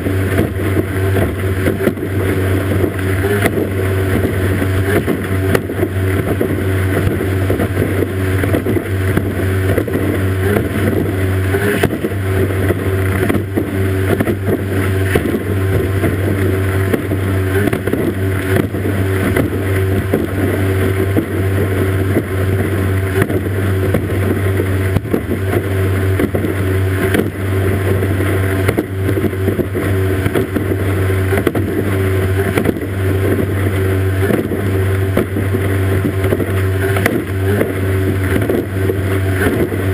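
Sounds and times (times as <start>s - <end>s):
outboard motor running flat out: 0.0s - 39.9s
rush of spray and water: 0.0s - 39.9s.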